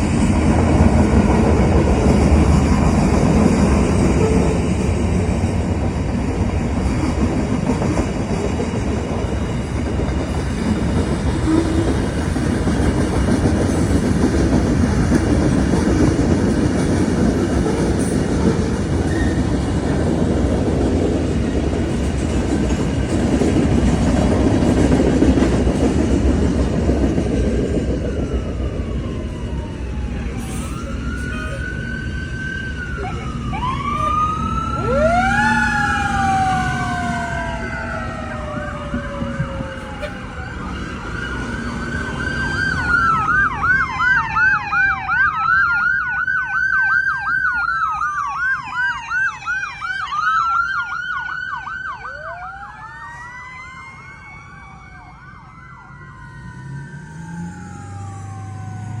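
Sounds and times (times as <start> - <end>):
emergency sirens wailing and yelping: 0.0 - 59.0.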